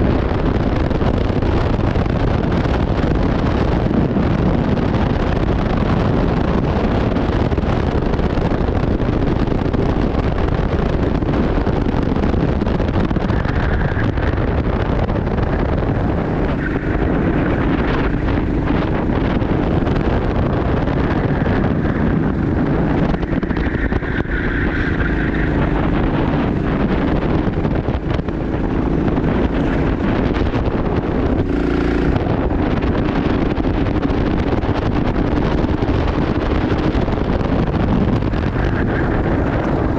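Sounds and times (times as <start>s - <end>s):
go-kart engine racing: 0.0s - 39.9s
wind rumble on microphone: 0.0s - 39.9s.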